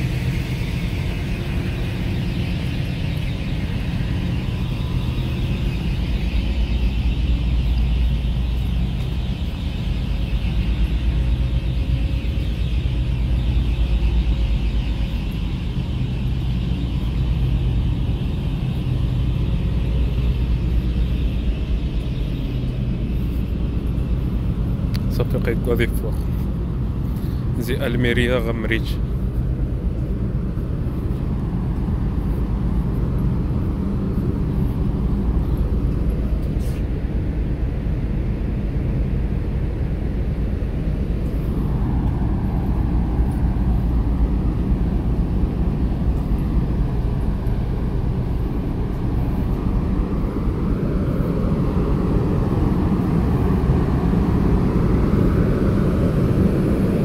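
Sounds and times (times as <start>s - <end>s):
ferry engines droning: 0.0s - 57.0s.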